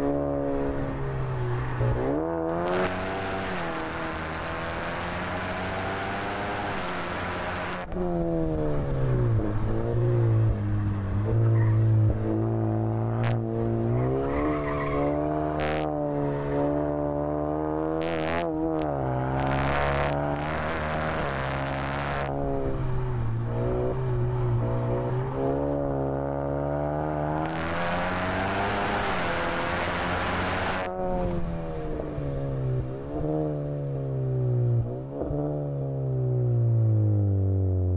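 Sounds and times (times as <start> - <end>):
car engine accelerating and shifting: 0.0 - 37.9.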